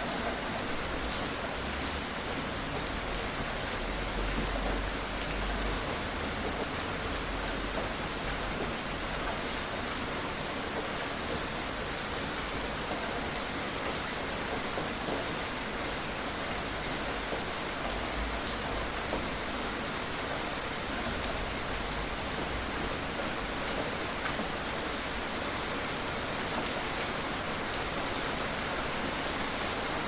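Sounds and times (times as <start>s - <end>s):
gentle rain falling: 0.0s - 30.0s.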